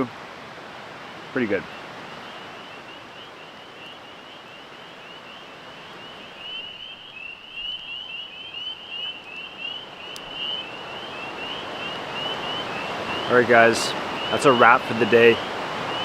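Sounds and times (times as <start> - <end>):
frogs peeping: 1.0 - 16.0.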